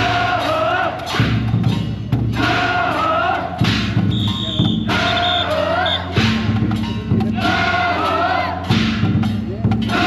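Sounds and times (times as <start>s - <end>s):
heavy percussion: 0.0s - 10.0s
men chanting together: 0.0s - 10.0s.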